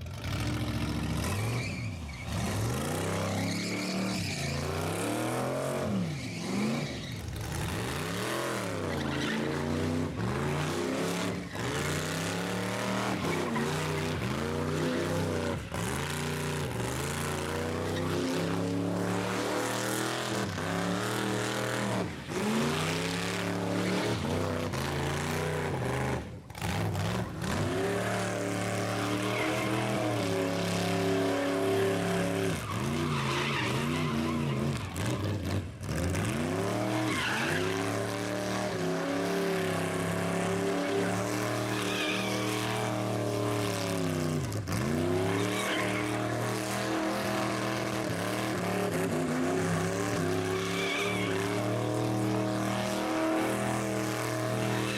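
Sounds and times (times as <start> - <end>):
tires squealing: 0.0 - 54.9.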